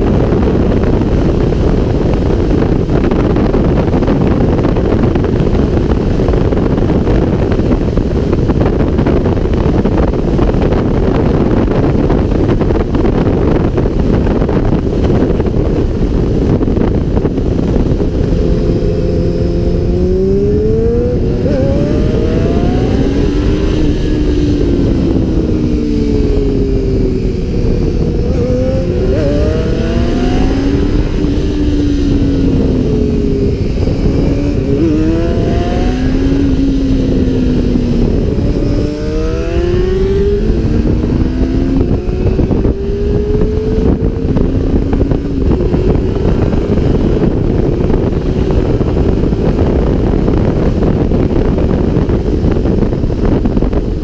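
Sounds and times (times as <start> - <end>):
motorcycle engine accelerating: 0.0 - 54.0
wind roar on microphone: 0.0 - 54.0.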